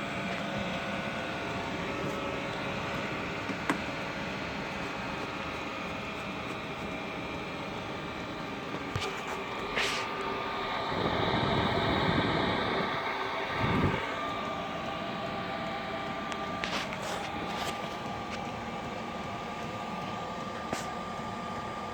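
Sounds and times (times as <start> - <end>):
heater fan hum with whine: 0.0 - 21.9.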